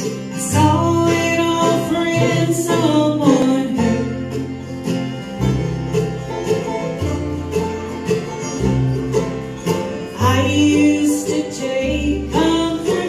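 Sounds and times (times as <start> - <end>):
acoustic guitar picking: 0.0 - 13.0
banjo picking: 0.0 - 13.0
fiddle: 0.0 - 13.0
mandolin picking: 0.0 - 13.0
upright bass notes: 0.0 - 13.0.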